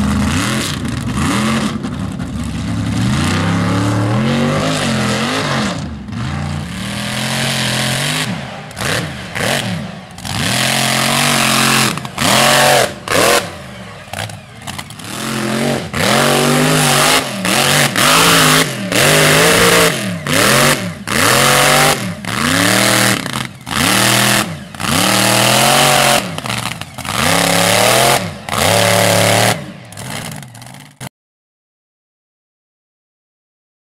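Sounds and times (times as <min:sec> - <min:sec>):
truck engine revving: 0:00.0 - 0:31.1.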